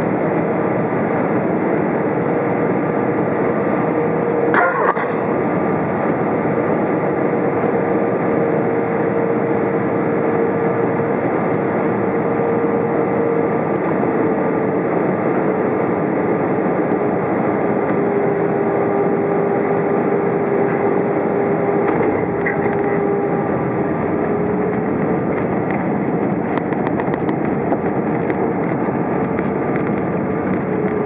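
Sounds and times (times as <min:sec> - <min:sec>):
airliner cabin engine roar: 0:00.0 - 0:31.0
steady engine hum: 0:00.0 - 0:31.0.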